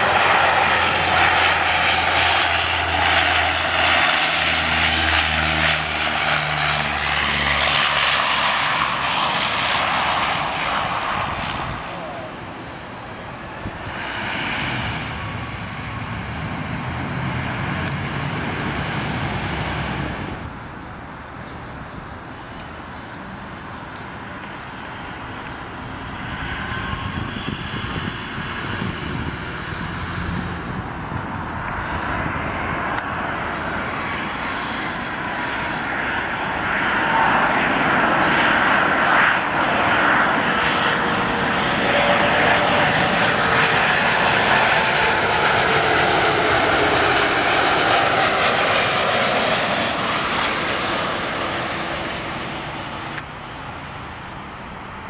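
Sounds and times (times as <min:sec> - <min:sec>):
jet airliner passing overhead: 0:00.0 - 0:55.0.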